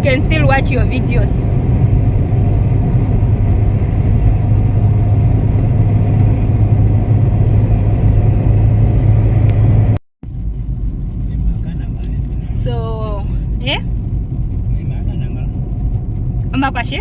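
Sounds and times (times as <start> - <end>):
car engine drone: 0.0 - 17.0
road noise inside car: 0.0 - 17.0.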